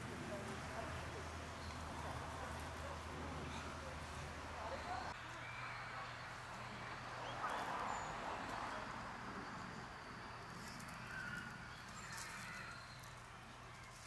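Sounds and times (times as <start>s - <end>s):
faint voices: 0.0s - 14.0s.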